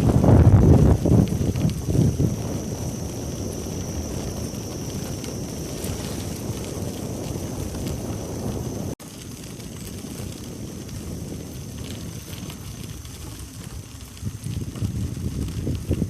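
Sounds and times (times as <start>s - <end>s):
bicycle tyre noise on trail: 0.0s - 16.0s
wind buffeting microphone: 0.0s - 16.0s.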